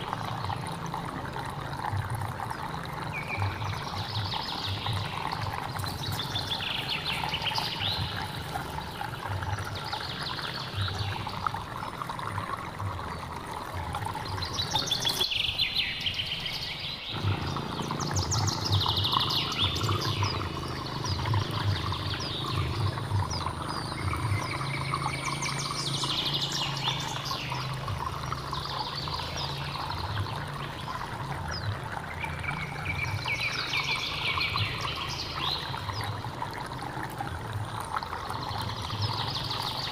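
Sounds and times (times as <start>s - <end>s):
songbird singing: 0.0s - 39.9s
stream running: 0.0s - 39.9s.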